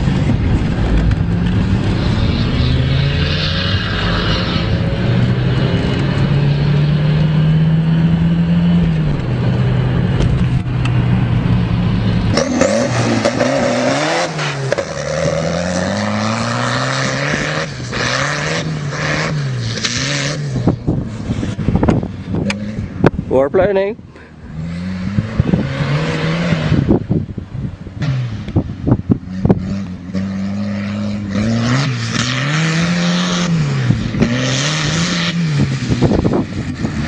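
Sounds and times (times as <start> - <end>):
tractor engine revving: 0.0 - 27.0, 29.2 - 37.0.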